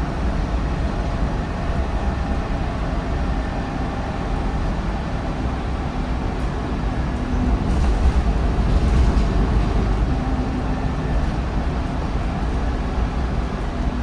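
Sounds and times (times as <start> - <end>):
bus diesel engine rumbling: 0.0 - 14.0.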